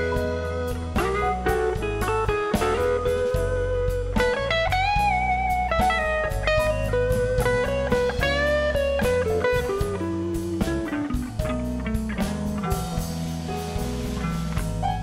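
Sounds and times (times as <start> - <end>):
drum hits: 0.0 - 15.0
electric blues band playing: 0.0 - 15.0
electric guitar lead: 0.0 - 15.0.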